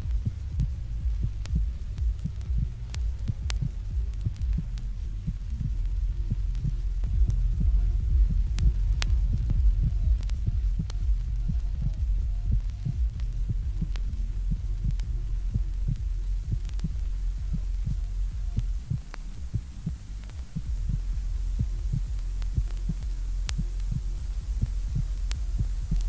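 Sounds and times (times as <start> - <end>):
faint clicks: 0.0 - 26.0
heartbeat thuds: 0.0 - 26.0
low drone: 0.0 - 26.0.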